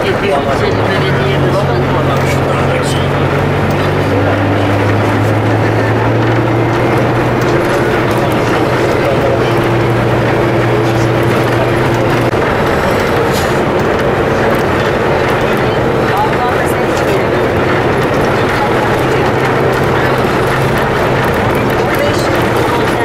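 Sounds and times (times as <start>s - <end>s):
knocks and rattles: 0.0s - 23.0s
vehicle engine hum: 0.0s - 23.0s.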